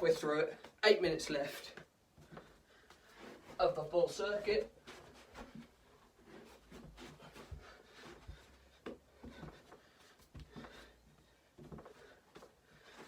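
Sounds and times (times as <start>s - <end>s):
knocks and rustles of movement: 1.6s - 13.0s.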